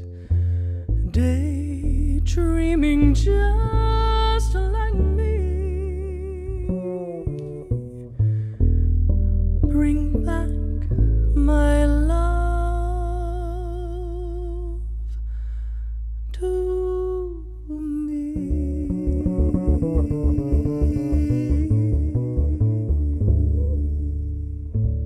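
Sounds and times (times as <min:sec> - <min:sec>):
double bass: 0:00.0 - 0:25.0
woman singing jazz: 0:01.0 - 0:08.0, 0:09.6 - 0:14.8, 0:16.3 - 0:24.5.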